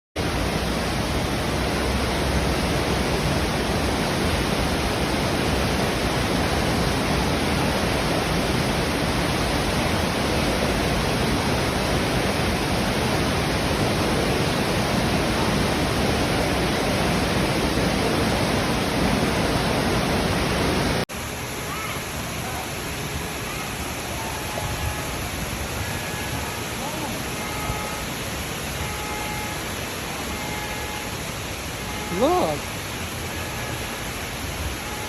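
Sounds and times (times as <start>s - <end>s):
heavy rushing floodwater: 0.2s - 35.0s.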